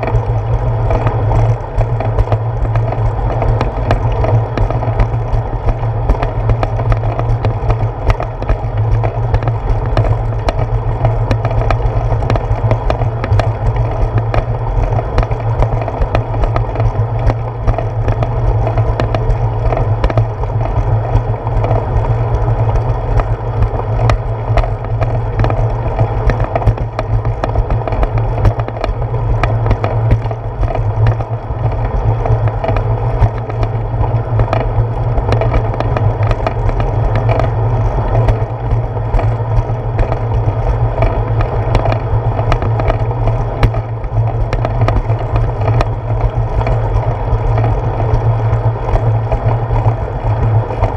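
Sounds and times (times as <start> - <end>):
bicycle rolling on concrete: 0.0 - 50.9.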